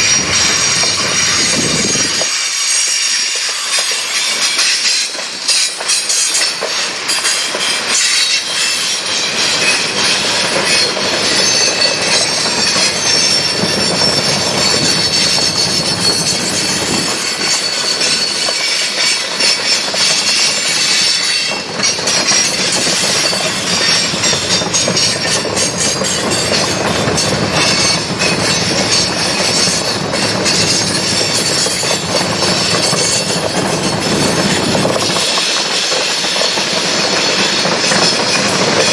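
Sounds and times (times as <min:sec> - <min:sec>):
freight train cars rolling: 0:00.0 - 0:38.9
wheels squealing against rails: 0:00.0 - 0:38.9
wheels clicking over rail joints: 0:03.5 - 0:38.9.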